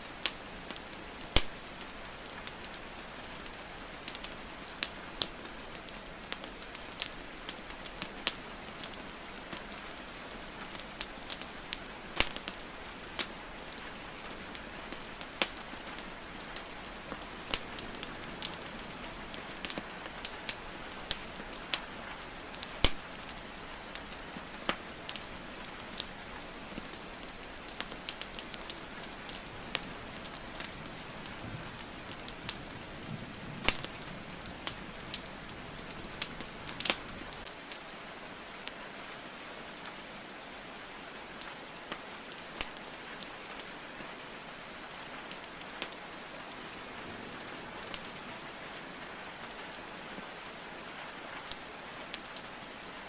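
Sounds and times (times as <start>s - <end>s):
wood fire crackling and popping: 0.0s - 37.9s, 41.3s - 48.6s, 51.4s - 53.0s
falling rain hiss: 0.0s - 53.0s.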